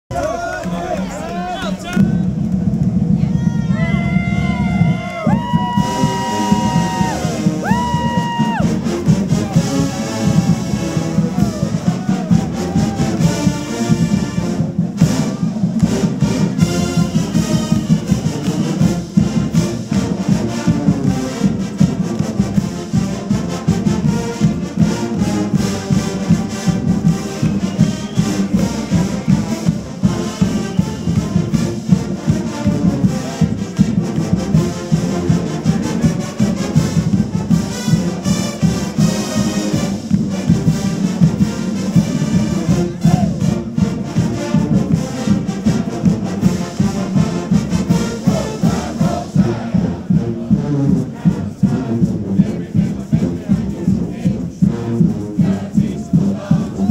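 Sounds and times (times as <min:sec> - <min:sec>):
marching band brass: 0:00.1 - 0:56.9
marching band drum beat: 0:00.1 - 0:56.9.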